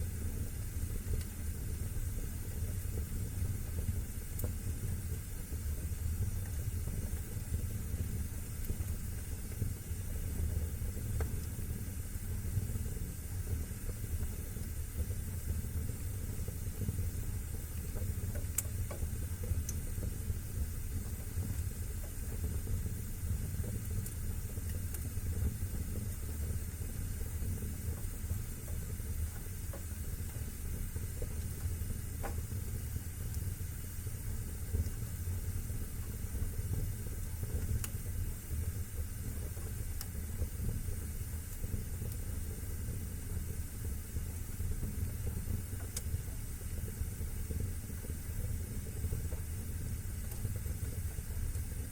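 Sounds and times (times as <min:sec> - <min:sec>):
fire crackling pops: 0:00.0 - 0:51.9.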